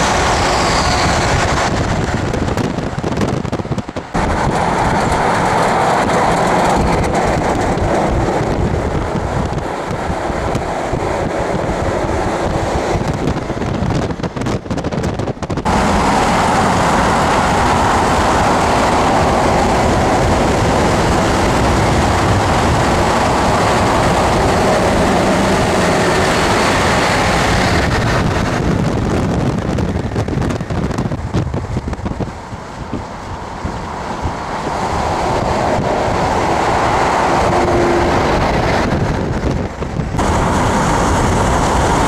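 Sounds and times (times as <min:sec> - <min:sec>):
road and wind roar: 0:00.0 - 0:42.0
wind buffeting microphone: 0:00.0 - 0:42.0.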